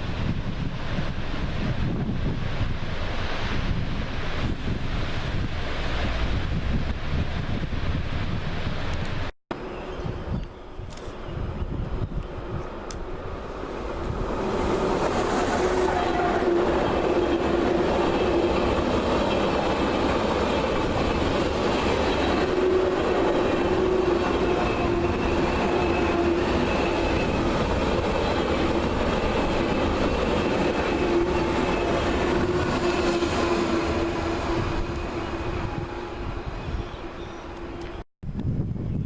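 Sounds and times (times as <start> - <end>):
train passing: 0.0 - 9.8, 12.3 - 38.0.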